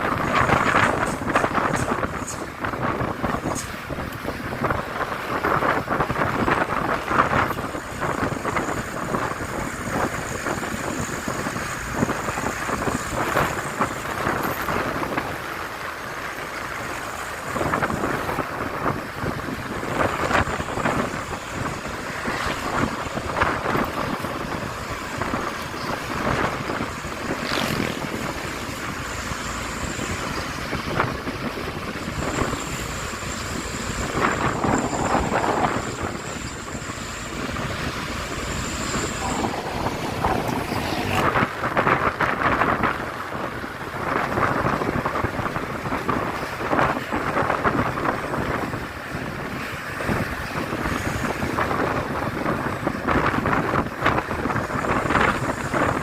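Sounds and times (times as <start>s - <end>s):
truck running on road: 0.0s - 56.0s
wind buffeting microphone: 0.0s - 56.0s.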